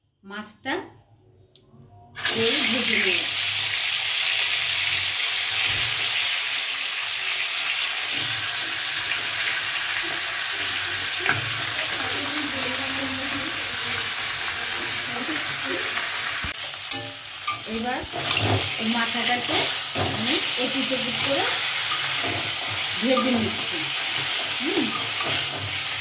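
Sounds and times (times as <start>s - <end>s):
fish frying in hot oil: 2.2s - 26.0s.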